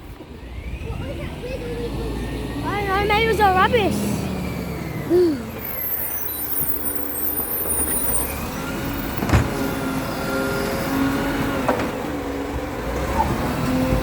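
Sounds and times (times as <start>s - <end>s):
drawn-out whining tone: 0.0s - 14.0s
garbage truck running: 0.0s - 14.0s.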